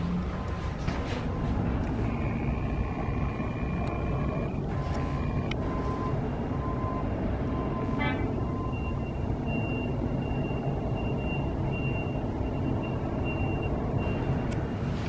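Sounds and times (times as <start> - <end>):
steady low rumble: 0.0 - 15.0
high electronic beeps: 1.9 - 14.5.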